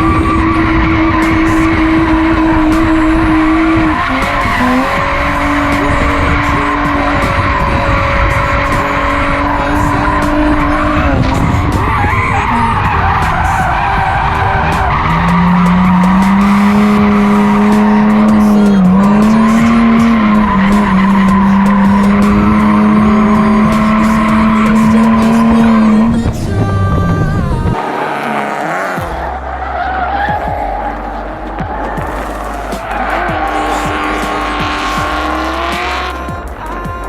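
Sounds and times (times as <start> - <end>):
car engine at high revs: 0.0 - 36.8
tyres skidding: 0.0 - 37.0.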